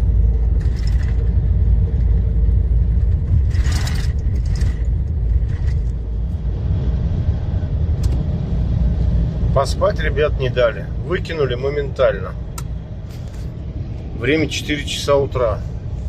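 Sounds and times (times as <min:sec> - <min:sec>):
lorry engine and road noise: 0:00.0 - 0:16.0.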